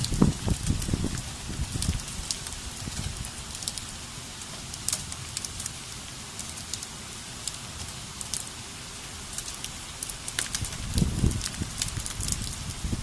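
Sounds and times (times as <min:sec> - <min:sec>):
hailstones ticking on hard surfaces: 0:00.0 - 0:13.0
rain hissing: 0:00.0 - 0:13.0.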